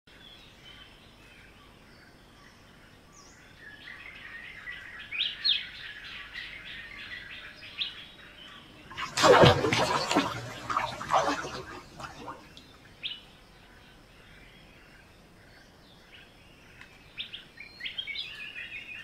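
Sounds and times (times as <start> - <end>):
birds chirping and singing: 0.3 - 8.9, 9.9 - 19.0.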